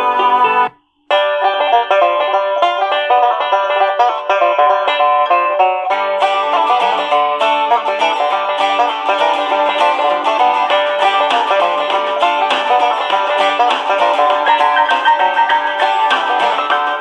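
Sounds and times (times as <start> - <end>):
banjo music from small radio speaker: 0.0 - 17.0.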